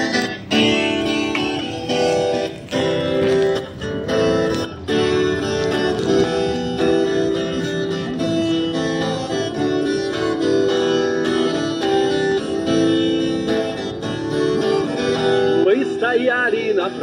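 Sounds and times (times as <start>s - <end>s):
guitar playing chords: 0.0s - 17.0s.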